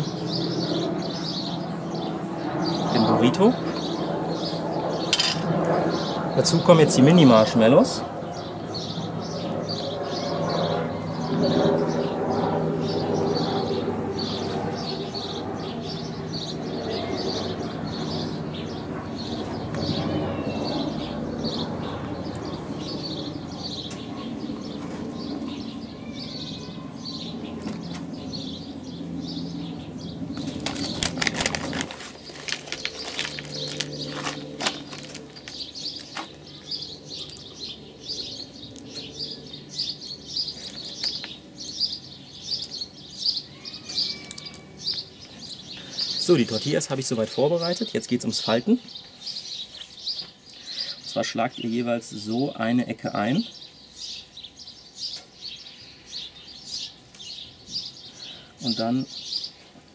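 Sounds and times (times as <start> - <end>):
bird chirping: 0.0 - 59.8.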